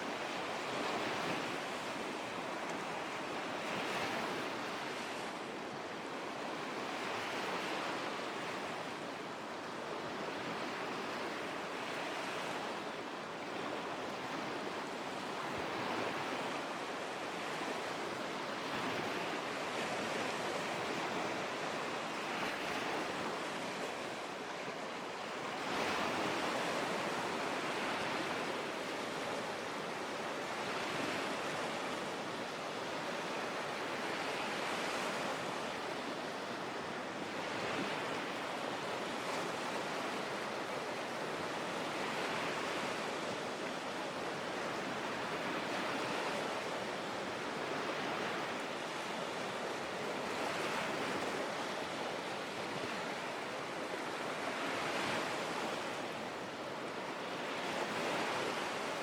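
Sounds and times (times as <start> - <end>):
lake waves washing in: 0.0 - 59.0.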